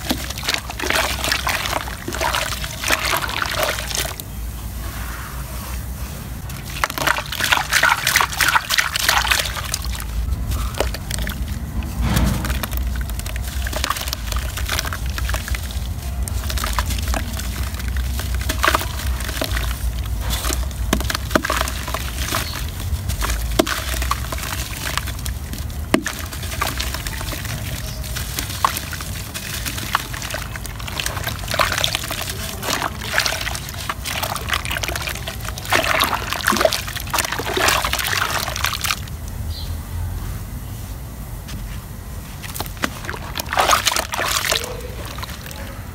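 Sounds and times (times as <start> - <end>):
dry dirt crumbling: 0.0 - 4.4, 6.4 - 39.4, 41.4 - 45.9
muddy water sloshing: 0.0 - 4.5, 6.2 - 39.5, 42.2 - 45.9.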